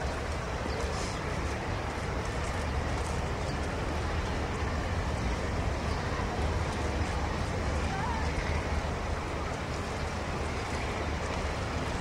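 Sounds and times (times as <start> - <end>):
low traffic rumble: 0.0 - 12.0
voices of passers-by: 0.0 - 12.0.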